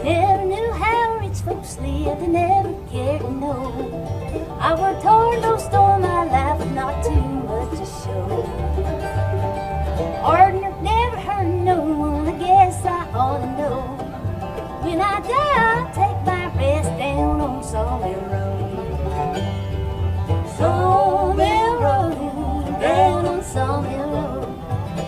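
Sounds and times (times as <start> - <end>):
acoustic lead with sliding notes: 0.0 - 25.0
strummed and picked strings: 0.0 - 25.0
walking upright bass: 0.0 - 25.0.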